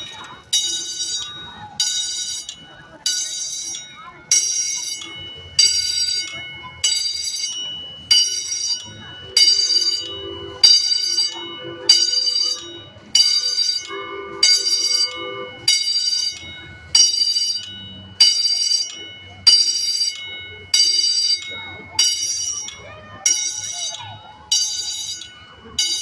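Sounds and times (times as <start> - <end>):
railroad crossing bell ringing: 0.0 - 26.0.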